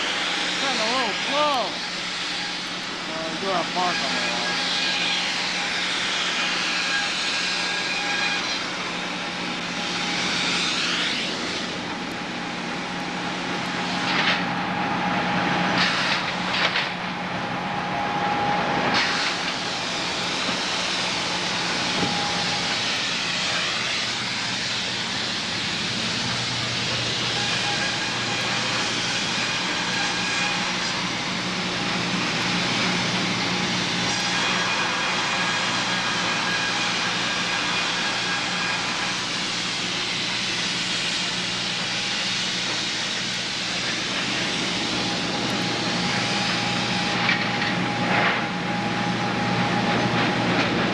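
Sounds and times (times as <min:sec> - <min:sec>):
sawmill machinery humming: 0:00.0 - 0:50.9.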